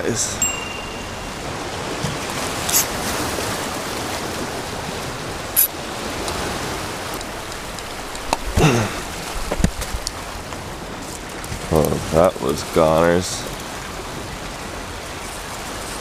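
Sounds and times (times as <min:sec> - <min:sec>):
ocean surf on rocks: 0:00.0 - 0:16.0.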